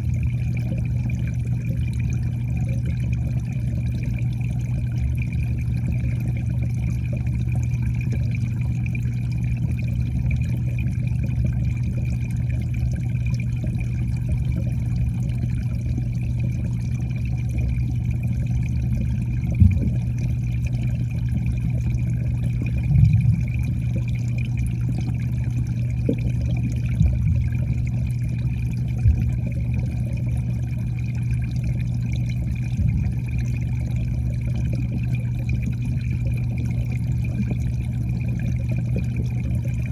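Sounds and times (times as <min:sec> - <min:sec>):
muffled underwater hum and rumble: 0:00.0 - 0:39.9.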